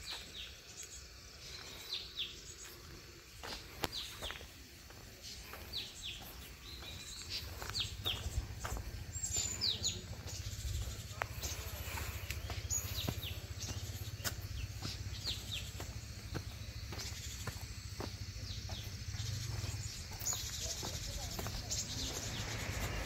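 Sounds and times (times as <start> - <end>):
birds calling with high chirps: 0.0 - 23.0
steady low rumble: 2.8 - 23.0.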